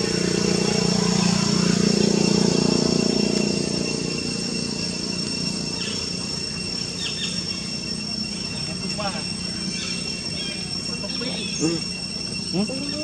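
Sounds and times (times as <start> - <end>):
high insect drone: 0.0 - 13.0
low hum: 0.0 - 13.0.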